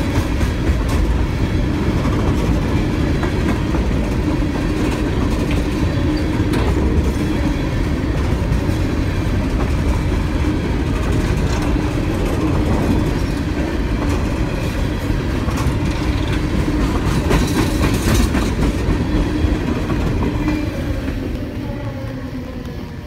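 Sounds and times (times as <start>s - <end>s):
train cars clattering over rails: 0.0s - 21.5s.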